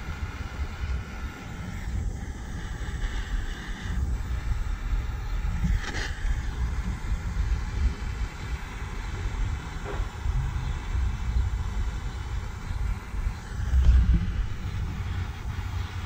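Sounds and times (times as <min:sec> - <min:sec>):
butane torch hissing: 0:00.0 - 0:16.0
wind rumble on microphone: 0:00.1 - 0:16.0.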